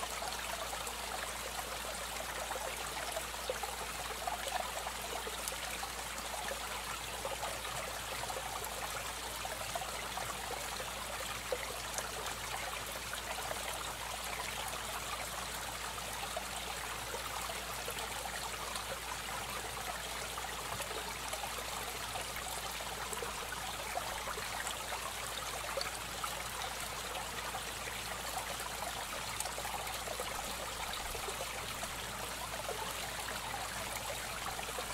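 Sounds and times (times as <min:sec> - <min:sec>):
water trickling and splashing: 0:00.0 - 0:34.9.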